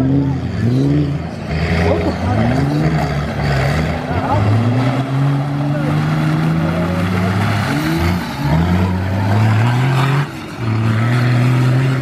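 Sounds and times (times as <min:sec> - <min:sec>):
engine revving hard in mud: 0:00.0 - 0:12.0.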